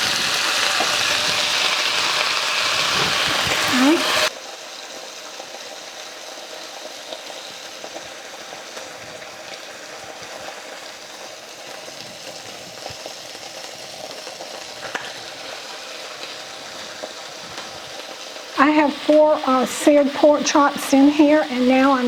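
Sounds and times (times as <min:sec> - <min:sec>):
meat sizzling in oil: 0:00.0 - 0:22.0.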